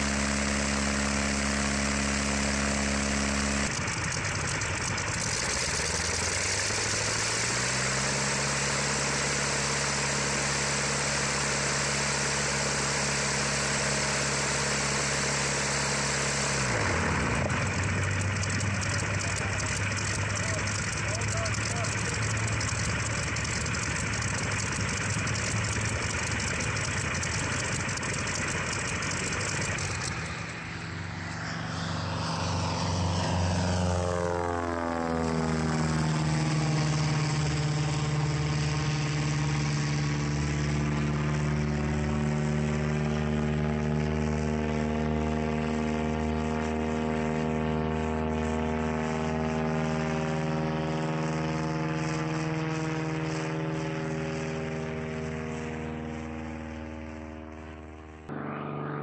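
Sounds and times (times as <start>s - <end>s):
light aircraft flying past: 0.0s - 59.0s
radial engine running steadily: 0.0s - 59.0s.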